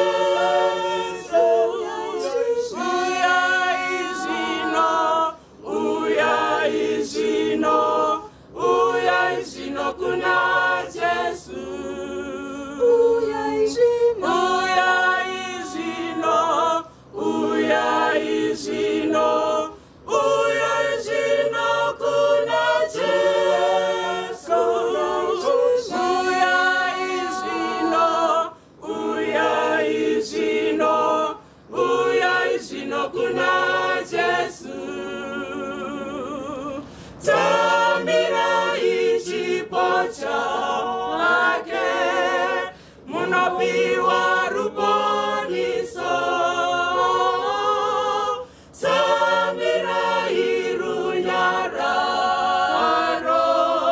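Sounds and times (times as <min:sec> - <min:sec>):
congregation singing a hymn: 0:00.0 - 0:53.9.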